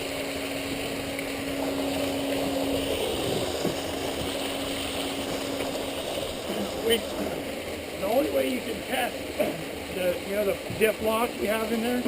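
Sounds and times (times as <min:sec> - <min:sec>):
vehicle winch mechanical hum: 0:00.0 - 0:12.0
waterfall rushing: 0:01.6 - 0:12.0.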